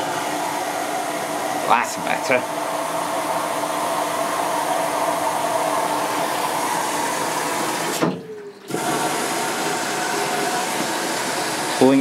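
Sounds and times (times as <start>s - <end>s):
washing machine filling with water: 0.0s - 12.0s.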